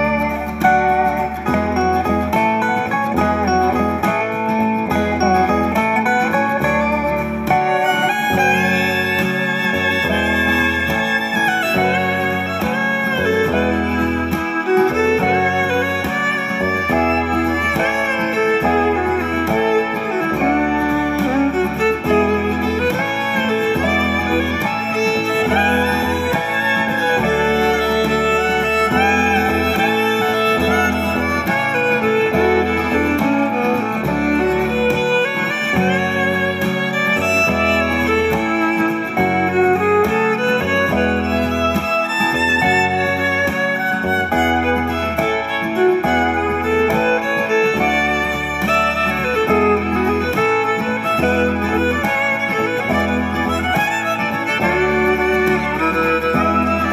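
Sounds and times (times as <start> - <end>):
plucked-string accompaniment: 0.0 - 56.9
steady bass line: 0.0 - 56.9
violin-like melody with sliding notes: 0.0 - 56.9.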